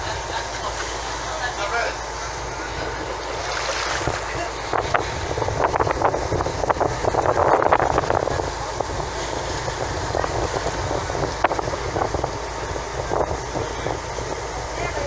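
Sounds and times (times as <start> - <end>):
boat engine rumble: 0.0 - 15.0
wind buffeting microphone: 2.0 - 15.0
water splashing along boat hull: 2.1 - 15.0.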